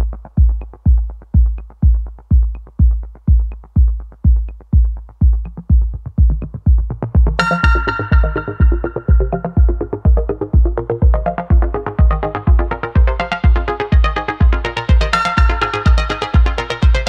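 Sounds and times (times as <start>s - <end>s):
electronic music with kick drum: 0.0s - 17.0s.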